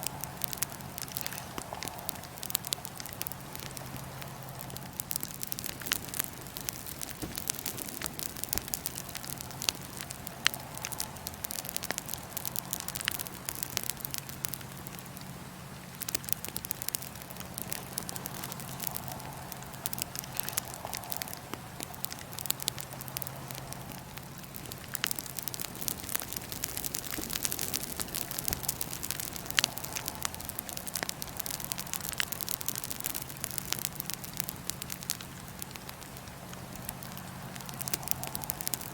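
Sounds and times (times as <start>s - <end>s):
burning wood popping: 0.0s - 38.9s
wood fire crackling: 0.0s - 38.9s.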